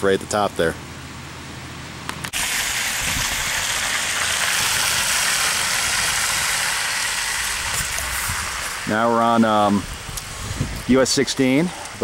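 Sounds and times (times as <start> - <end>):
steady rushing hiss: 2.2 - 12.0.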